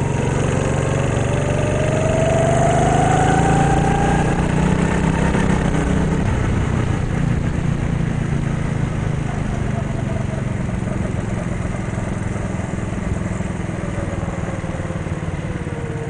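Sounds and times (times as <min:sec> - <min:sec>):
go-kart engine rising in pitch: 0:00.0 - 0:16.0.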